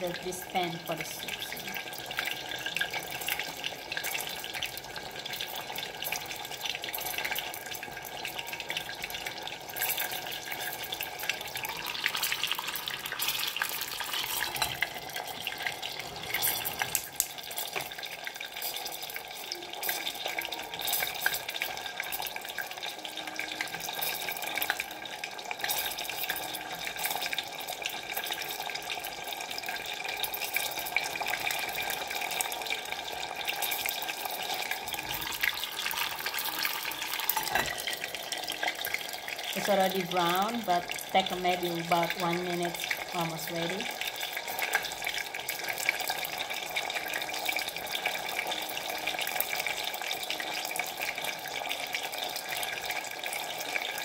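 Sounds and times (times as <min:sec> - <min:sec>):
fritters sizzling in hot oil: 0:00.0 - 0:54.0.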